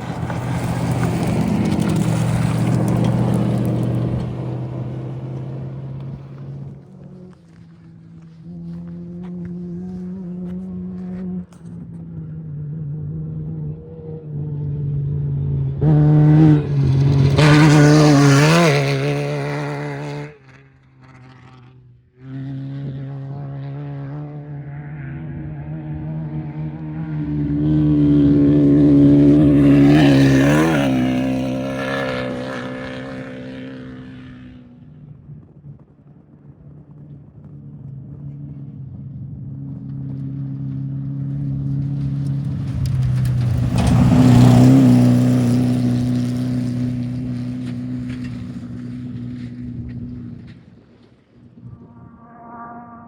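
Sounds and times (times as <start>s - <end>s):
off-road vehicle engines passing: 0.0s - 53.0s.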